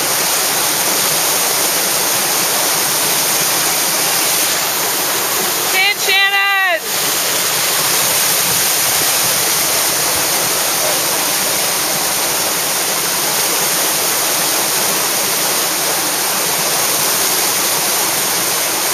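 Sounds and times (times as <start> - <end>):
whitewater rushing through rapids: 0.0 - 18.9.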